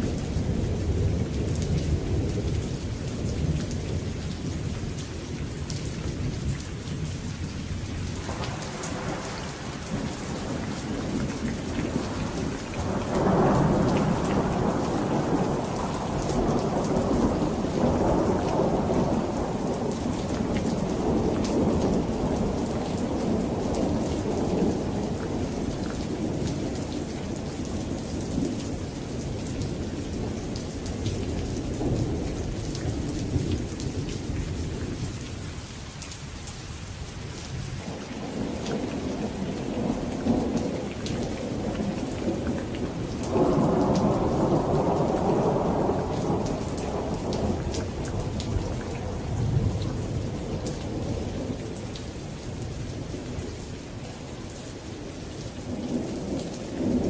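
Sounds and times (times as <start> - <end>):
steady rain on surfaces: 0.0 - 57.0.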